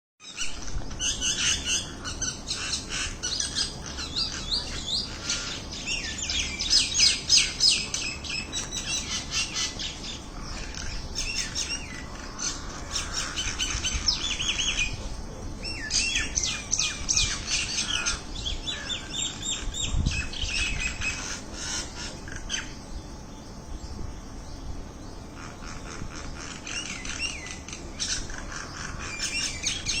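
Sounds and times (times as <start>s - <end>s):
small birds chirping: 0.2s - 30.0s.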